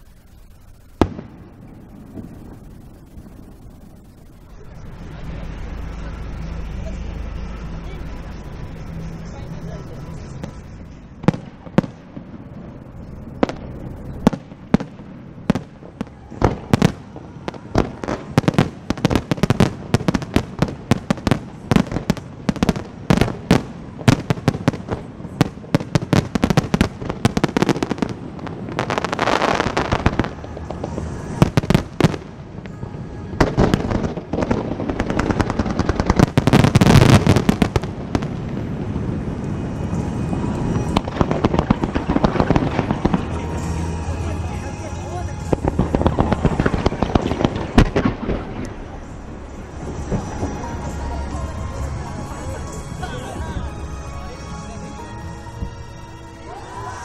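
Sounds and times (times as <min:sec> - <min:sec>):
dense crackle of fireworks: 0:00.0 - 0:57.0
fireworks bursting: 0:00.0 - 0:57.0.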